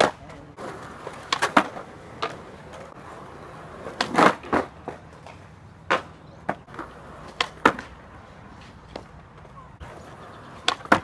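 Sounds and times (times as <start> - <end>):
skateboard clattering on concrete: 0.0 - 11.0.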